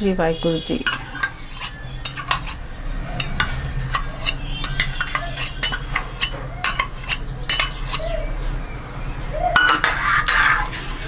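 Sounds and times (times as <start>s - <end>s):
metal spoon scraping a pot: 0.4s - 8.2s, 9.5s - 11.0s.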